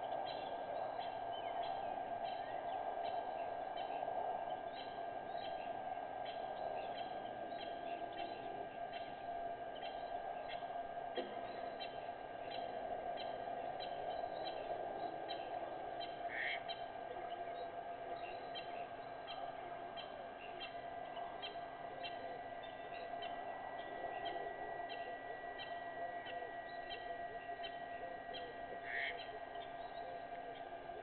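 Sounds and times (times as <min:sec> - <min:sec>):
steady drone: 0:00.0 - 0:31.0
thin steady whistle: 0:00.0 - 0:31.0.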